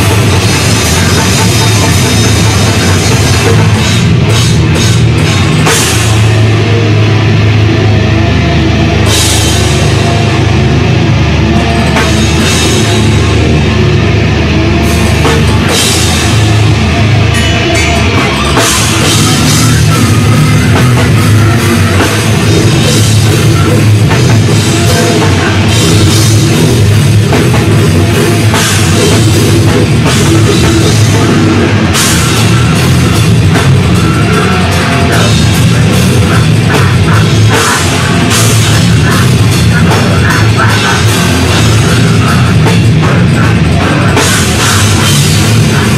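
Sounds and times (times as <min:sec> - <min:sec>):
heavy metal band playing live: 0:00.0 - 0:45.9.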